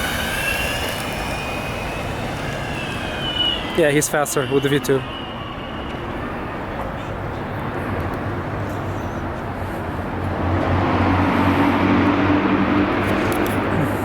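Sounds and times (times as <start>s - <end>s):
motor vehicle humming: 0.0s - 14.0s
street noise: 0.0s - 14.0s.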